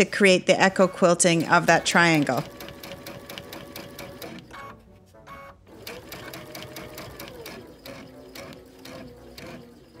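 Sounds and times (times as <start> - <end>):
sewing machine stitching: 0.8 - 4.8, 5.7 - 10.0.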